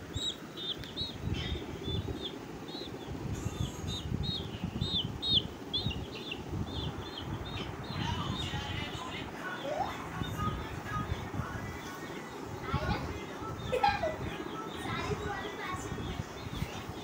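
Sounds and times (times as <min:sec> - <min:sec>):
chick peeping: 0:00.0 - 0:17.0.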